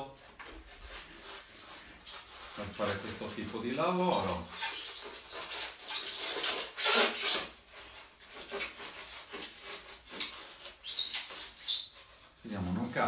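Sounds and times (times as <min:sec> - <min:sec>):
hands scraping styrofoam: 0:00.1 - 0:13.0.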